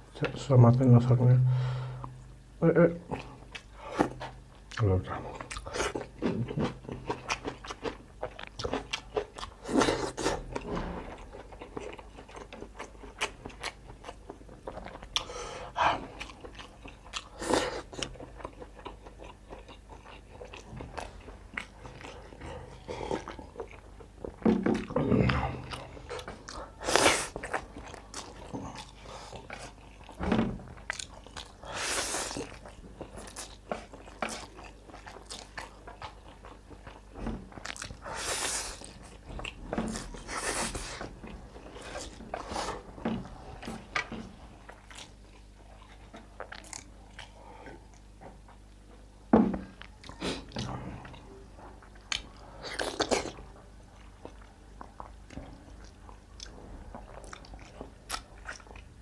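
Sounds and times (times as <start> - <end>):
wet chewing: 3.2 - 48.9, 49.7 - 58.9.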